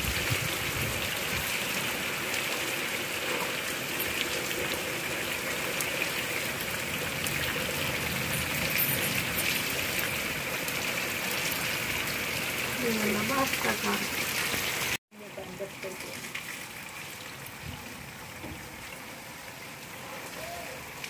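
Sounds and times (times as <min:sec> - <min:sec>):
rain falling into water: 0:00.0 - 0:21.0.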